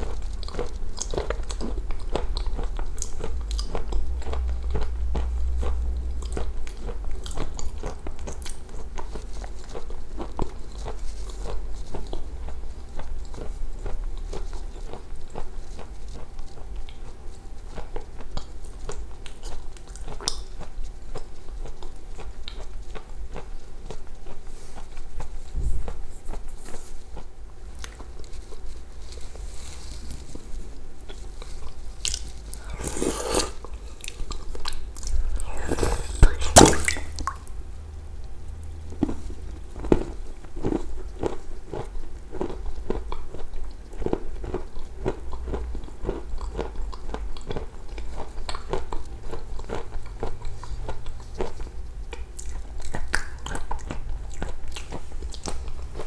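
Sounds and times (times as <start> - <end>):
wet chewing and smacking: 0.0 - 56.0.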